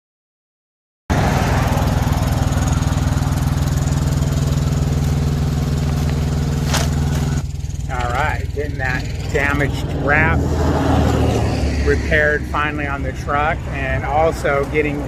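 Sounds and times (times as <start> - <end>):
diesel truck engine running: 1.1 - 15.0.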